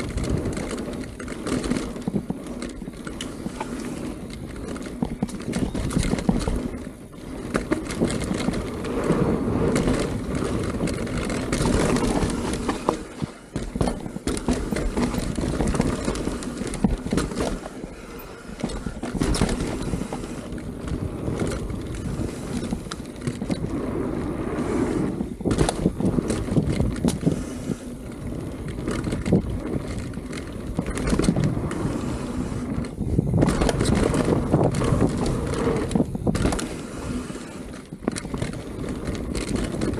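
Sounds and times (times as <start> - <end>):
bike rattling over bumps: 0.0 - 39.9
bike tyres rumbling on dirt: 0.0 - 39.9.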